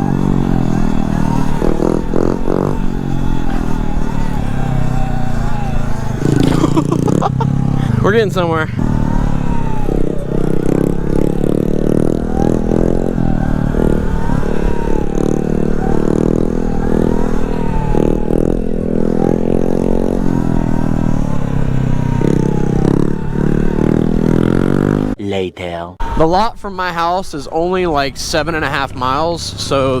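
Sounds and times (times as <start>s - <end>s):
motorcycle engines at speed: 0.0s - 25.2s, 26.0s - 30.0s
wavering whine: 0.0s - 25.2s.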